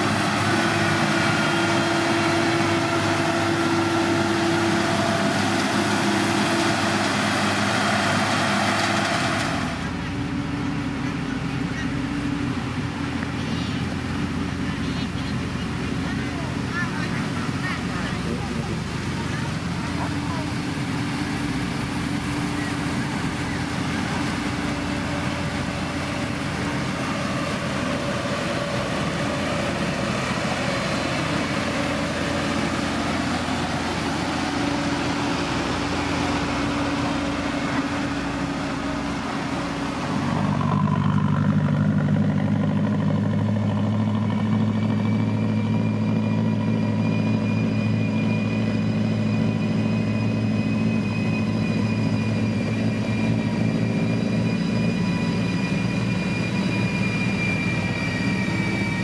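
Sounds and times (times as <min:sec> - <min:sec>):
deep engine drone: 0:00.0 - 0:59.0
diesel construction machinery running: 0:00.0 - 0:59.0
steady high whine: 0:00.0 - 0:59.0.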